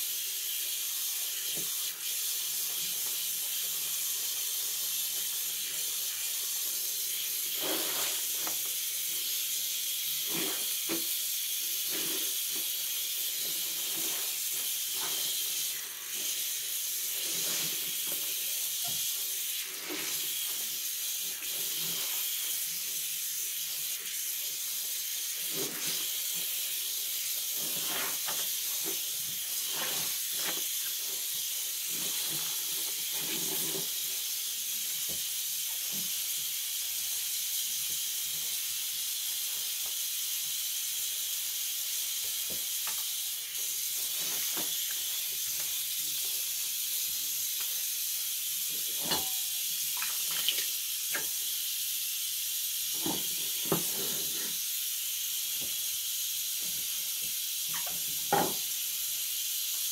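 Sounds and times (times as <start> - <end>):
high-pitched hiss: 0.0 - 59.9.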